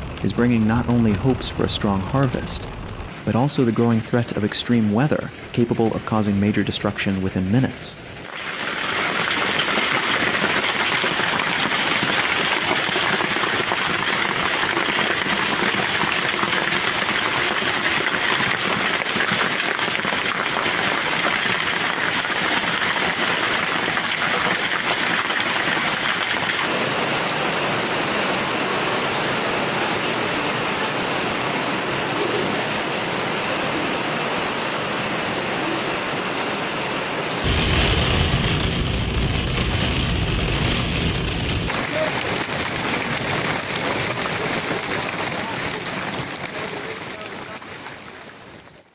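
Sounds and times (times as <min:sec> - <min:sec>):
storm water rushing: 0:00.0 - 0:48.7.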